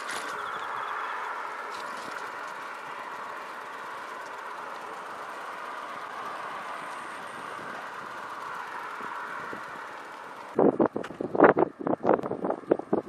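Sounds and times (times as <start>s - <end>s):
road traffic tyre hiss: 0.0s - 13.0s.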